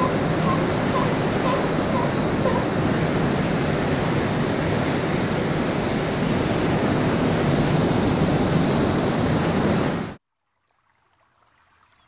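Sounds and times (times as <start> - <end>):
sea water rushing: 0.0 - 10.2.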